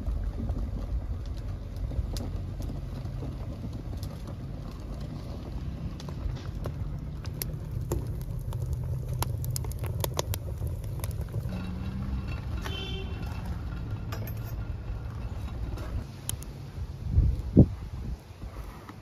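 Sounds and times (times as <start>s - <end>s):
low rumble: 0.0s - 16.1s
wood fire crackling: 0.0s - 19.0s.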